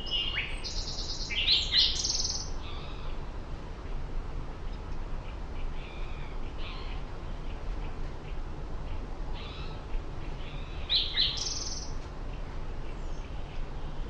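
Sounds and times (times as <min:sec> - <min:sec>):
birds chirping: 0:00.0 - 0:04.0, 0:04.6 - 0:14.0.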